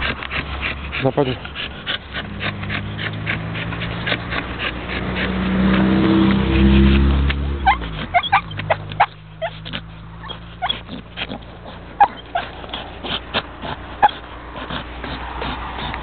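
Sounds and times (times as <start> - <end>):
dog whimpering: 0.0 - 5.5, 7.6 - 16.0.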